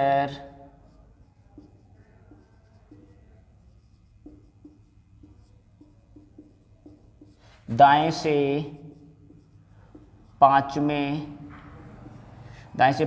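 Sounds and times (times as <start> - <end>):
marker writing on whiteboard: 0.0 - 13.0.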